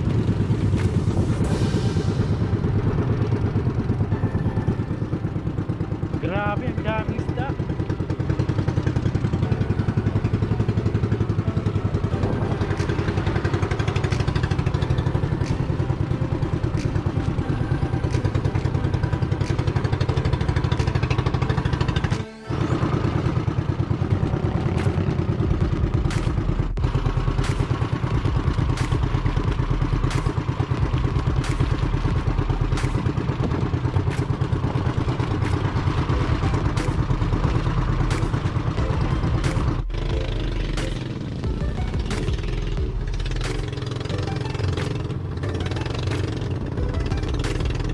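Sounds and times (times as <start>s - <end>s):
boat engine chugging: 0.0s - 47.9s.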